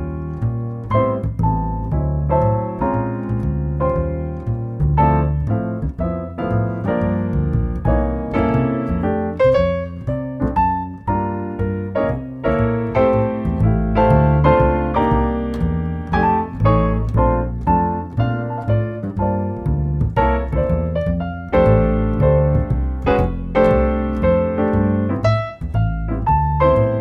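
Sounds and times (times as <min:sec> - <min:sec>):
keyboard notes over bass line: 0:00.0 - 0:27.0.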